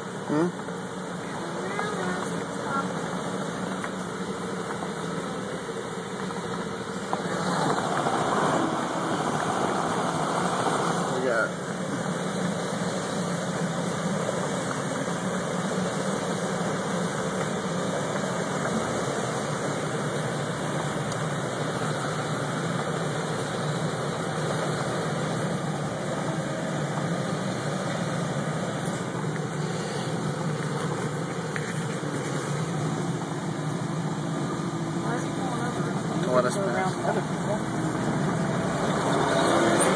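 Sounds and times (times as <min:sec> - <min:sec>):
tyres on gravel road: 0:00.0 - 0:39.9
vehicle engines running: 0:00.0 - 0:39.9.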